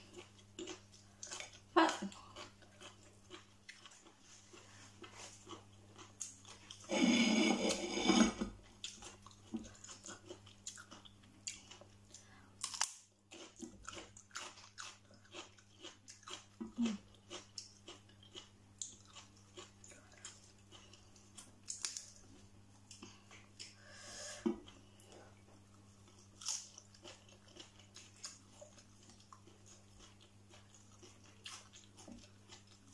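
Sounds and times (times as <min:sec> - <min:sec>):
person chewing crunchy food: 0:00.0 - 0:23.9, 0:24.6 - 0:32.9.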